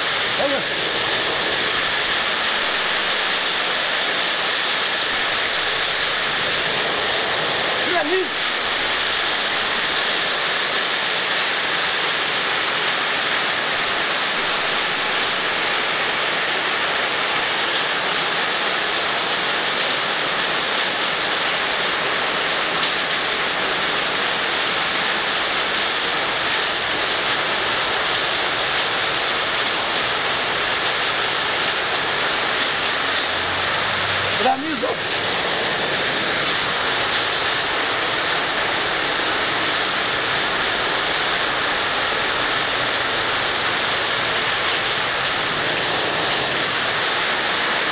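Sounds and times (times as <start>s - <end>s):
heavy rain and hail on pavement: 0.0s - 47.9s.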